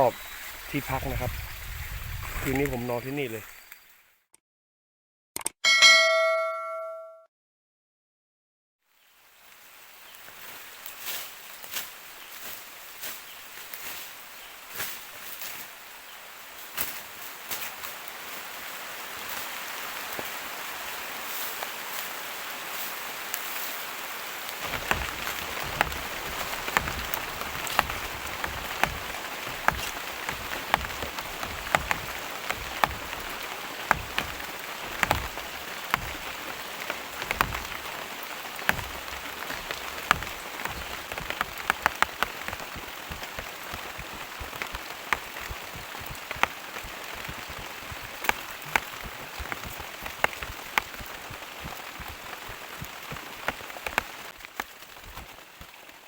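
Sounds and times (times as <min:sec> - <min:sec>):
heavy rain falling: 0:00.0 - 0:03.7, 0:09.1 - 0:56.0.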